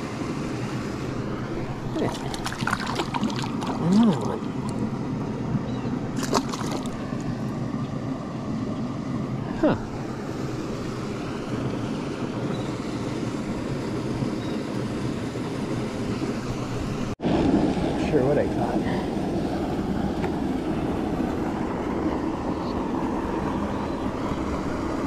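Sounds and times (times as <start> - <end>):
flowing river water: 0.0 - 25.0.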